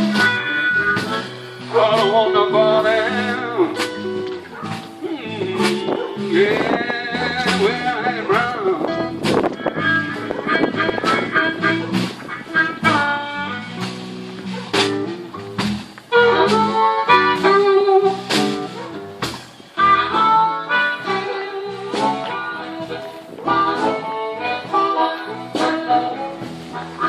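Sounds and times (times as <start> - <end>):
live blues band playing: 0.0 - 27.0.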